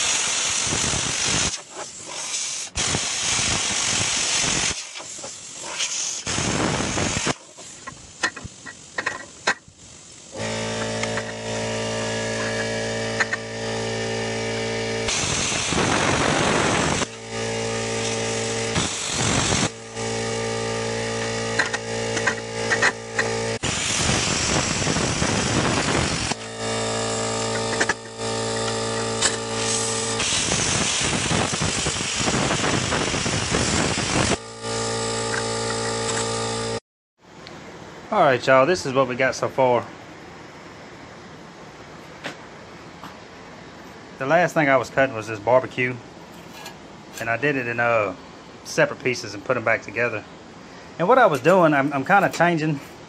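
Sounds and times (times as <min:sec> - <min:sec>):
cutting arc hissing: 0:00.0 - 0:36.8, 0:44.2 - 0:53.0
plasma cutter electrical hum: 0:00.0 - 0:36.8, 0:40.1 - 0:53.0.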